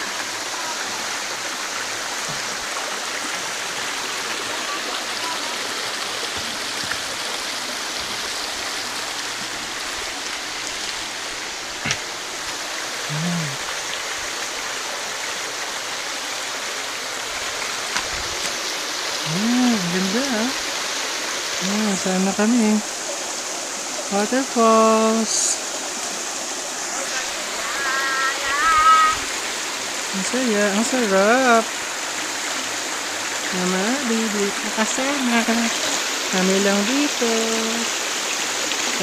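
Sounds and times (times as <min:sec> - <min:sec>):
waterfall and stream rushing: 0:00.0 - 0:39.0.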